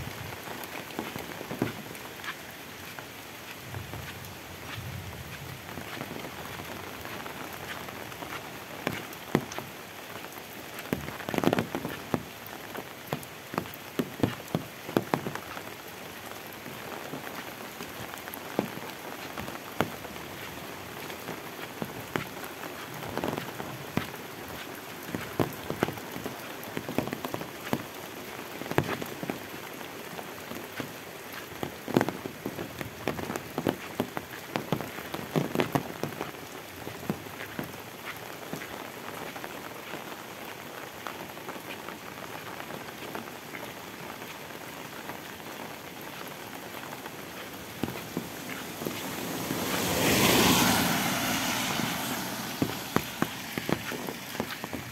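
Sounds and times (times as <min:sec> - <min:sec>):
heavy rain falling: 0:00.0 - 0:54.9
raindrops tapping close by: 0:00.0 - 0:54.9.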